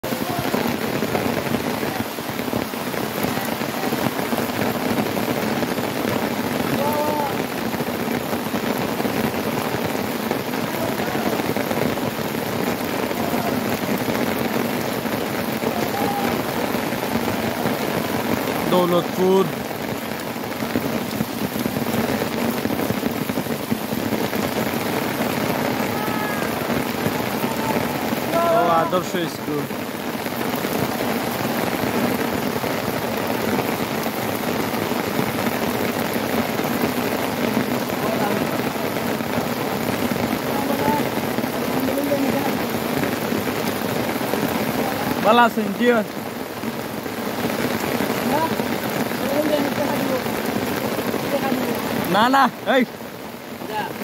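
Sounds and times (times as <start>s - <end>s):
heavy rain on water and wooden boat: 0.0s - 54.0s.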